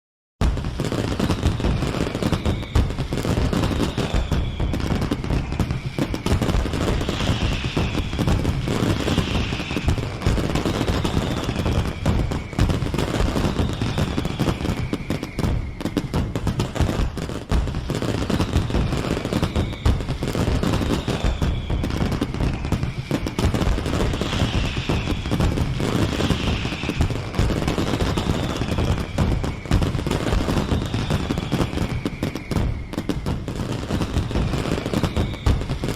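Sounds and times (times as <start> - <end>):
fireworks crackling bangs: 0.4 - 35.9
fireworks falling whistles: 0.4 - 35.9.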